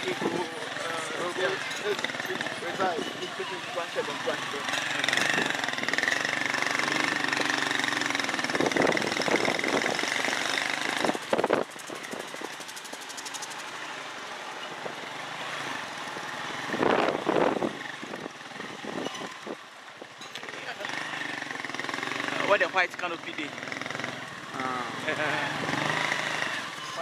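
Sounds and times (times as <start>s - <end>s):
small motorcycle engine running: 0.0s - 27.0s.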